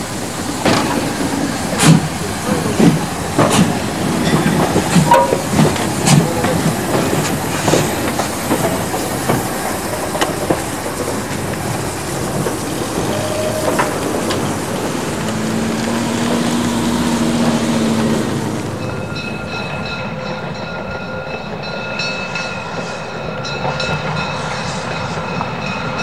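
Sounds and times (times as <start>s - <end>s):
steam locomotive rumbling: 0.0s - 26.0s
wheels clanking on rail joints: 0.0s - 26.0s.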